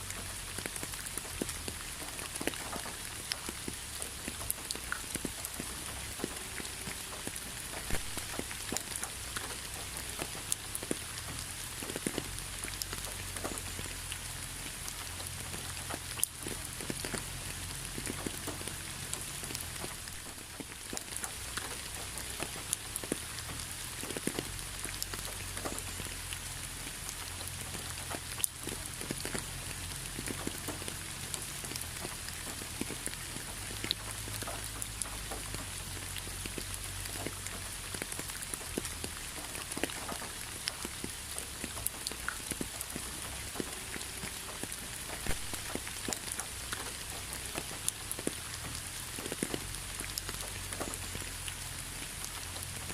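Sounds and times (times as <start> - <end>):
rain hiss: 0.0 - 52.9
raindrops ticking on a surface: 0.0 - 52.9.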